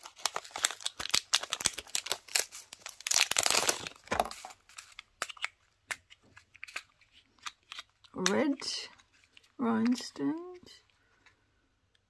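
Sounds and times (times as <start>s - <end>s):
plastic packets crinkling: 0.0s - 10.6s.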